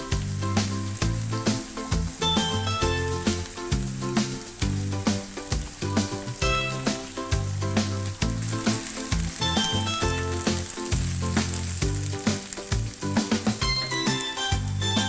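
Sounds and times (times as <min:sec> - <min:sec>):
background music: 0:00.0 - 0:15.0
food sizzling in oil: 0:00.0 - 0:15.0.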